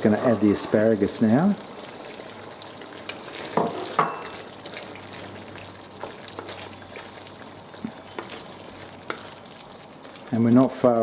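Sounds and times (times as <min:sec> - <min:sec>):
curry bubbling in a pan: 0:00.0 - 0:11.0.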